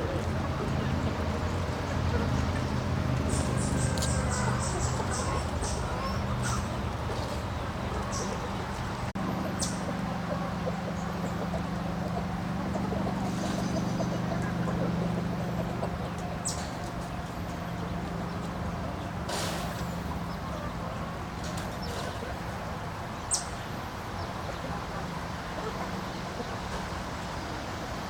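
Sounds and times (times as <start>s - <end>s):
low machine hum: 0.0s - 26.8s
chickens clucking: 0.0s - 27.7s.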